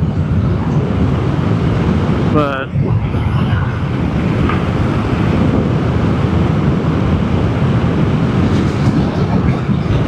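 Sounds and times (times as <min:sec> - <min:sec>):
road noise: 0:00.0 - 0:10.0
wind rush on microphone: 0:00.0 - 0:10.0.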